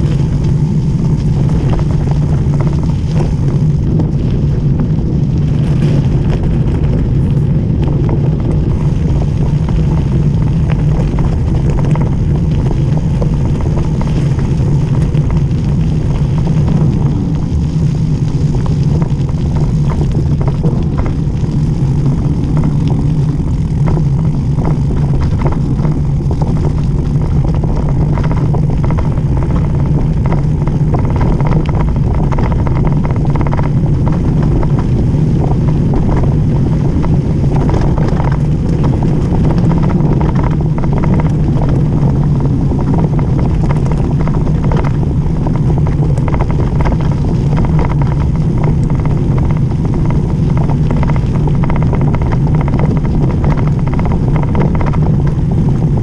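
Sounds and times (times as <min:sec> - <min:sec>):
bike tyres rumbling on gravel: 0:00.0 - 0:56.0
grit and bike rattling: 0:00.0 - 0:56.0
wind on microphone: 0:00.0 - 0:56.0.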